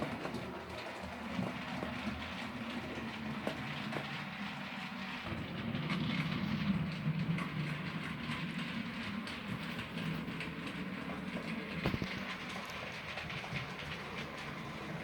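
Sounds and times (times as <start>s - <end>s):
wheels ticking over rail joints: 0.0s - 15.0s.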